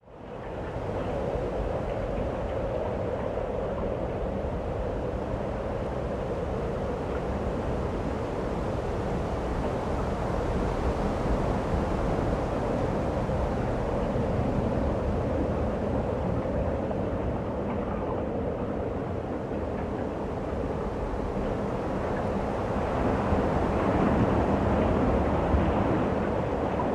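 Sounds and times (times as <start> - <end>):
wind buffeting microphone: 0.4 - 26.9.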